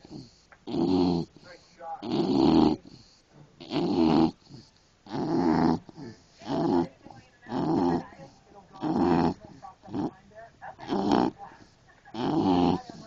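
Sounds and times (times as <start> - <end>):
dog snoring: 0.0 - 10.2, 10.8 - 13.0.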